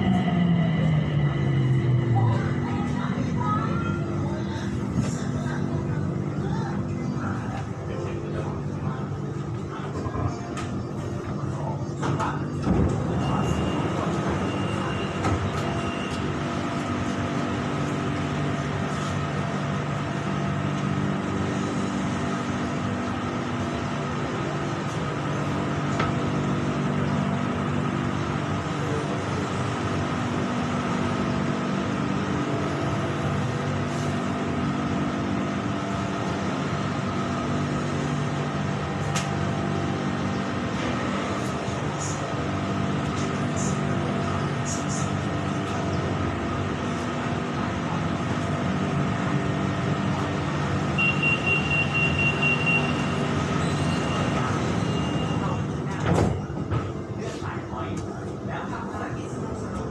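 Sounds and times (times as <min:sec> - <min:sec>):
electric train interior rumble: 0:00.0 - 0:59.9.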